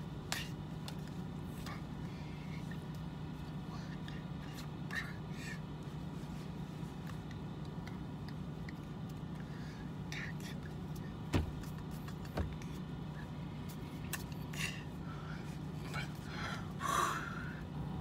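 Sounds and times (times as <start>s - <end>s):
low hum inside vehicle cab: 0.0s - 18.0s.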